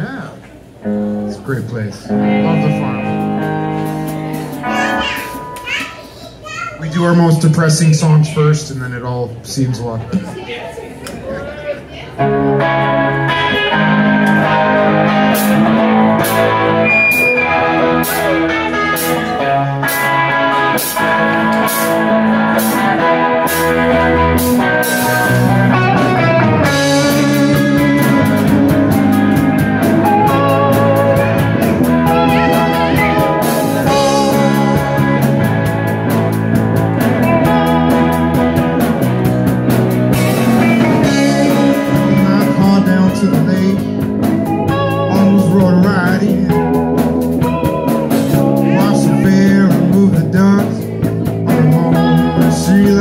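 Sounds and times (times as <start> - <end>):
electric bass: 0.0 - 5.6, 12.2 - 53.0
electric guitars: 0.0 - 6.5, 11.1 - 53.0
drum kit: 2.6 - 6.0, 12.2 - 53.0.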